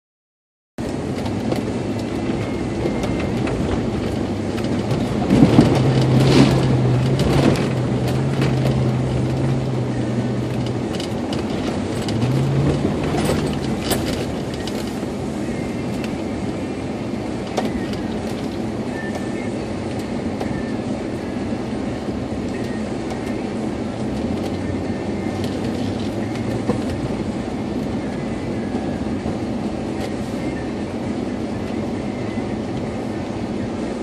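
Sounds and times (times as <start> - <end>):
tyres on dirt track: 0.8 - 34.0
vehicle engine: 0.8 - 34.0.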